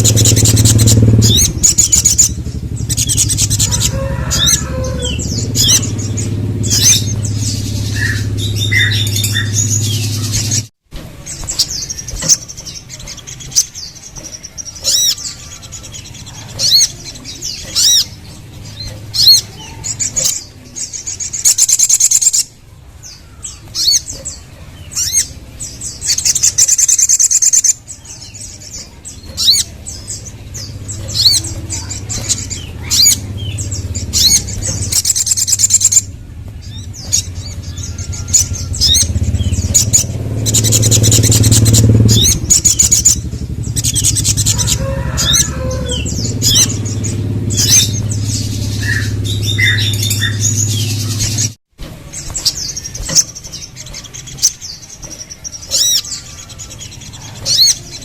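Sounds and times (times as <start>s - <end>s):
bird chirping and trilling: 0.0s - 58.0s
steady low hum: 0.0s - 58.0s.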